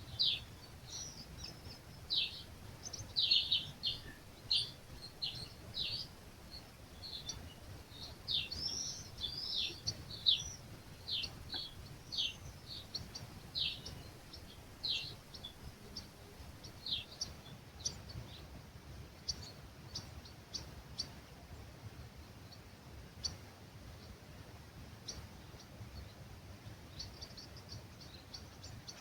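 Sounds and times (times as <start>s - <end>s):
faint low breeze rumble: 0.0s - 29.0s
songbirds chirping: 0.0s - 29.0s.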